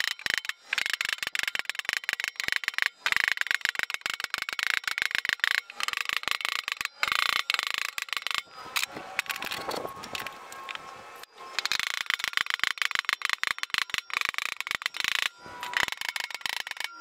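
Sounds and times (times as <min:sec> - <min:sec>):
tools clinking: 0:00.0 - 0:10.8, 0:11.5 - 0:17.0.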